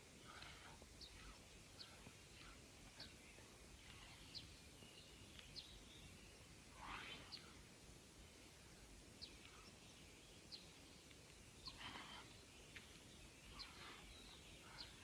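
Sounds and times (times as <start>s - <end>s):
outdoor hiss: 0.0s - 15.0s
bird chirps: 0.3s - 7.6s, 9.2s - 15.0s.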